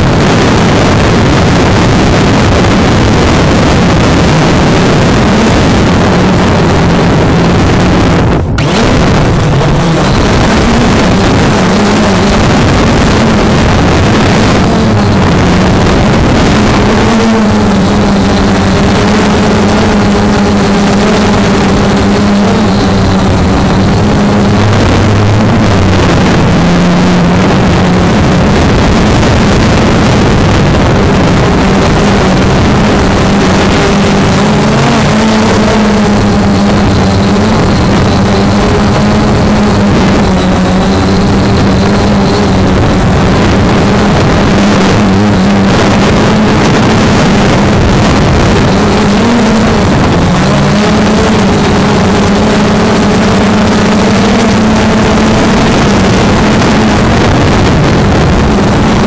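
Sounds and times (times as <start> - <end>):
drone motors buzzing: 0.0 - 59.0
wind noise: 0.0 - 59.0.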